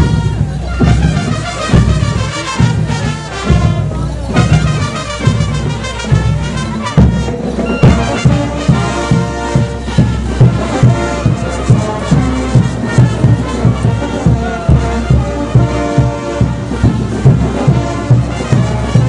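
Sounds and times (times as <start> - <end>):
bass drum beat: 0.0 - 19.0
brass band playing dance music: 0.0 - 19.0.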